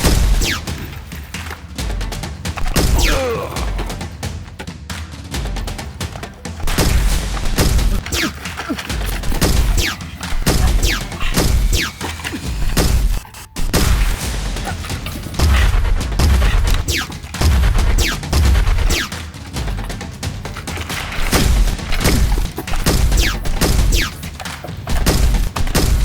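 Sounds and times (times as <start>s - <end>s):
rapid gunfire sound effects: 0.0s - 26.0s.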